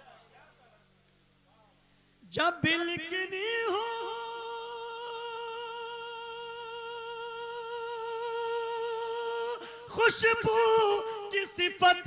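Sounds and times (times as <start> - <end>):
man chanting a long sung note: 2.3 - 12.0.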